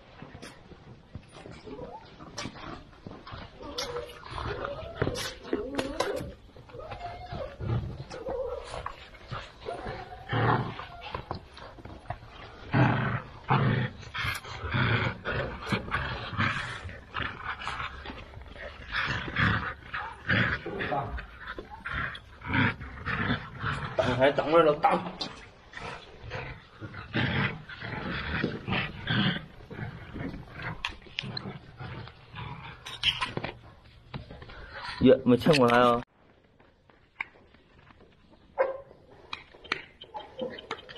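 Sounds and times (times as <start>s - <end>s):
puppies growling: 0.0s - 40.9s.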